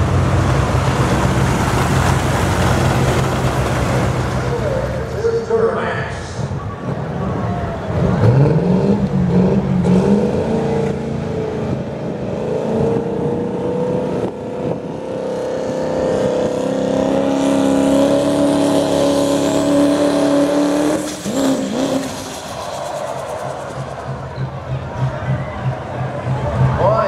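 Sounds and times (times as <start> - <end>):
diesel engine at full throttle: 0.0 - 27.0.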